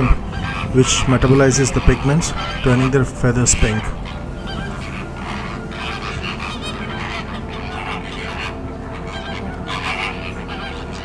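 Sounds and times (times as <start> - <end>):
flamingos honking: 0.0 - 11.0
steady low rumble: 0.0 - 11.0.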